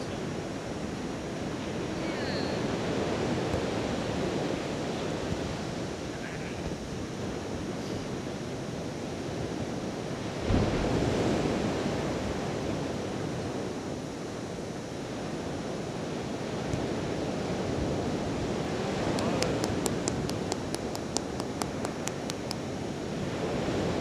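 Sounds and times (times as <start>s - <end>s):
sea surf washing: 0.0s - 24.0s
wind on the microphone: 0.0s - 24.0s.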